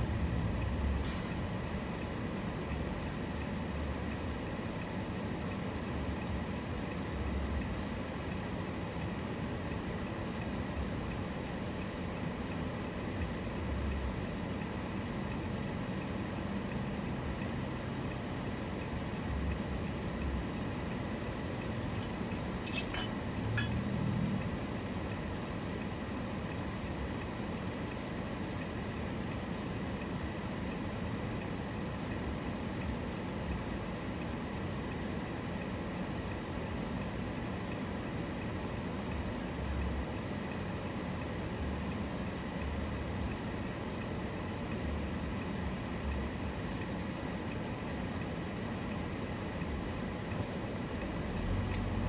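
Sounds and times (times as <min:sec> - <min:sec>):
car cabin road and engine noise: 0:00.0 - 0:52.0.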